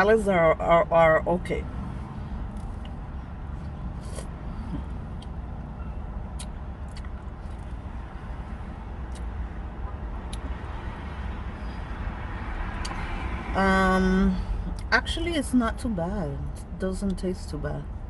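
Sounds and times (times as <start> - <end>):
low rumble of road traffic: 0.0 - 18.0.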